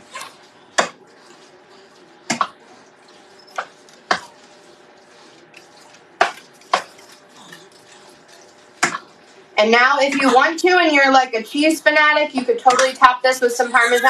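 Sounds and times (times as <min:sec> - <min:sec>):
spoon stirring food in a pot: 0:00.0 - 0:11.7.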